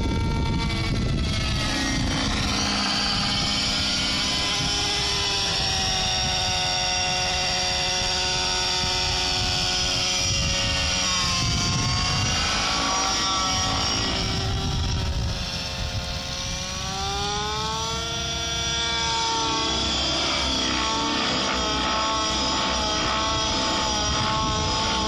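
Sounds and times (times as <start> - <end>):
model helicopter engine and rotor: 0.0 - 25.0.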